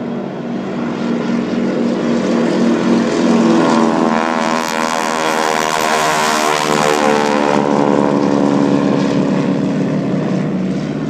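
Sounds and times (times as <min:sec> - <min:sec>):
propeller planes flying overhead: 0:00.0 - 0:11.0.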